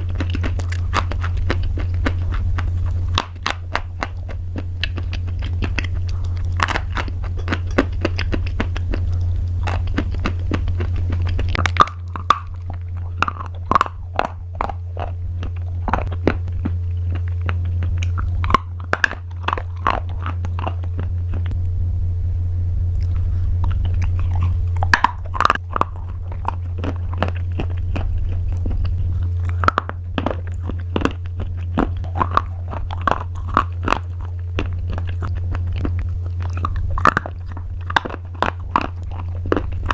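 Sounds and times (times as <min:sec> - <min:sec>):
crunchy pasta chewing: 0:00.0 - 0:21.6, 0:22.9 - 0:39.9
steady low hum: 0:00.0 - 0:39.9.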